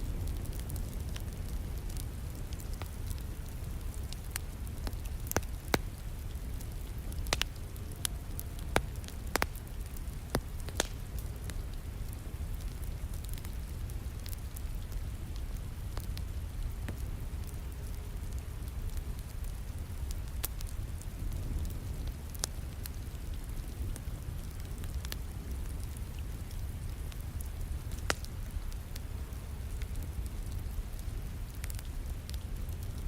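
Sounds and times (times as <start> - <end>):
rain falling: 0.0 - 33.0
wood fire crackling and popping: 0.0 - 33.0.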